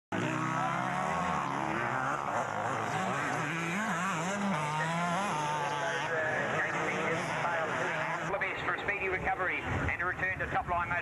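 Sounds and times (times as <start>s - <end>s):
motocross bikes revving: 0.1s - 10.6s.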